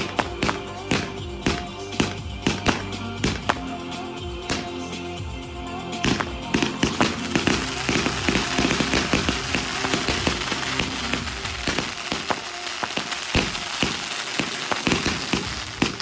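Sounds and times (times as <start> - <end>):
fireworks popping and crackling: 0.0 - 5.1, 5.9 - 16.0
background music: 0.0 - 16.0.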